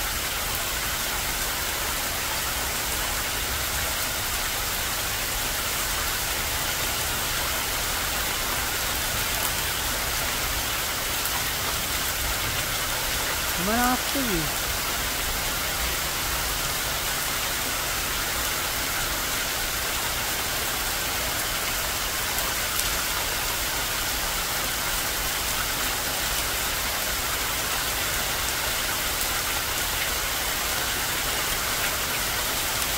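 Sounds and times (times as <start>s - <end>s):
heavy rain on leaves: 0.0s - 32.9s
water streaming off roof: 0.0s - 32.9s.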